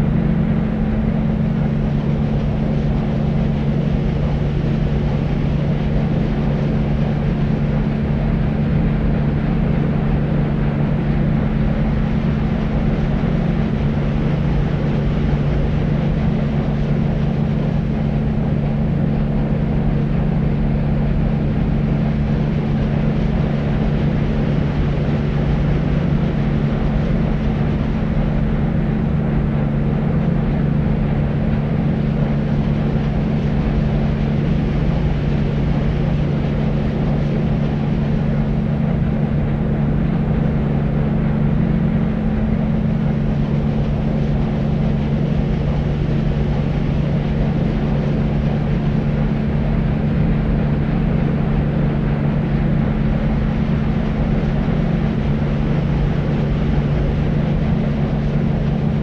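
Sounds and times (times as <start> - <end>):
constant low hum: 0.0 - 59.0.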